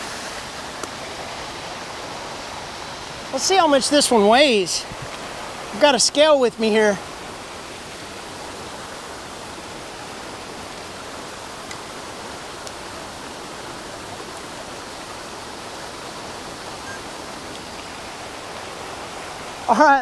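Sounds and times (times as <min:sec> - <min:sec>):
water rushing through spillway: 0:00.0 - 0:20.0.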